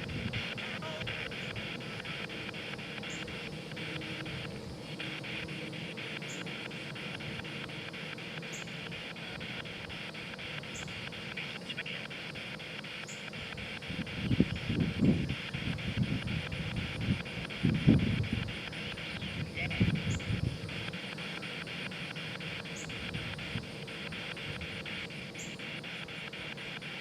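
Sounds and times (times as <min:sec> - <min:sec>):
radio static pulsing: 0:00.0 - 0:27.0.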